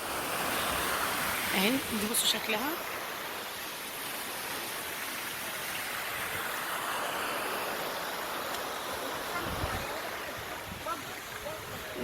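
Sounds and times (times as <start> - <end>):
falling and splashing water: 0.0 - 12.0.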